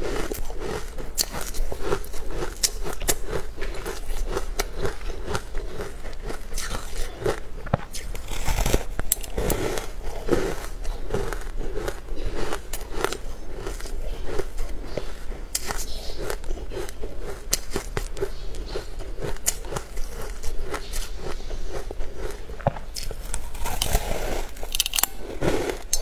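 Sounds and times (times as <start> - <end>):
person chewing cake: 0.0 - 26.0.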